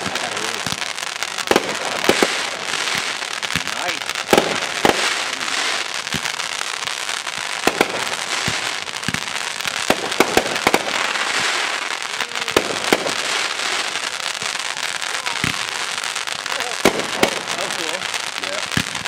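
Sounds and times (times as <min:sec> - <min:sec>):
fireworks hiss: 0:00.0 - 0:19.0
fireworks sharp reports: 0:00.0 - 0:19.0.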